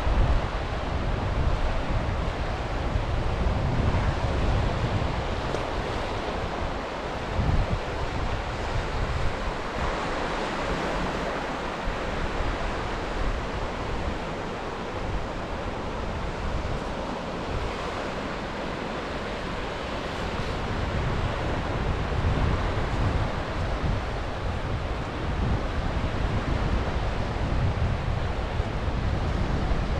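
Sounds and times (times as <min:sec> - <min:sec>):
sea waves washing onto shore: 0:00.0 - 0:29.9
wind buffeting microphone: 0:00.0 - 0:29.9.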